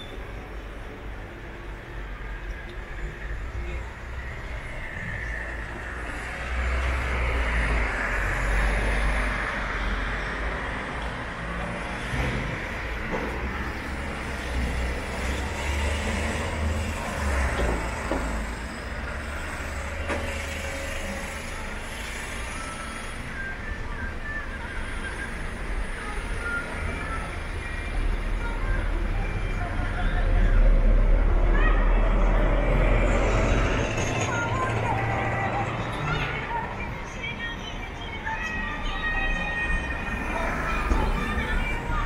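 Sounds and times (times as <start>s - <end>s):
vehicles driving past: 0.2s - 23.9s, 24.9s - 42.0s.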